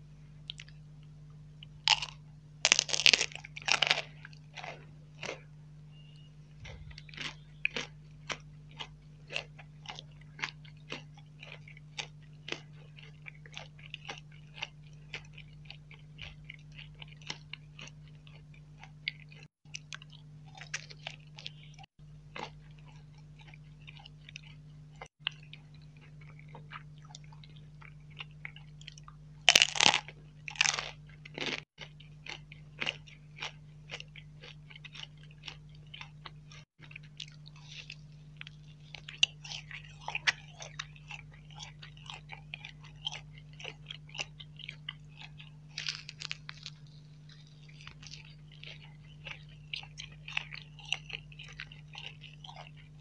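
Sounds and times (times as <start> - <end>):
crunching and chewing: 0.0 - 53.0
faint steady hum: 0.0 - 53.0.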